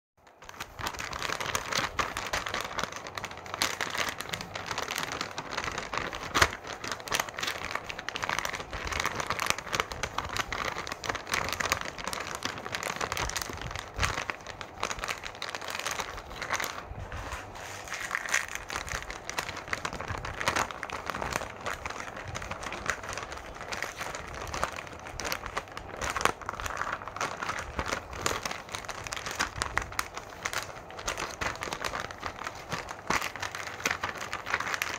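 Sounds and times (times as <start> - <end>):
plastic pouch crinkling: 0.2 - 34.9.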